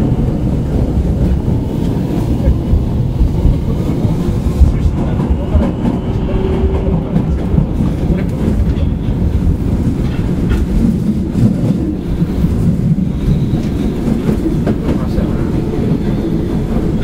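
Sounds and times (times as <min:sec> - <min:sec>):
subway train wheels rumbling on rail: 0:00.0 - 0:17.0.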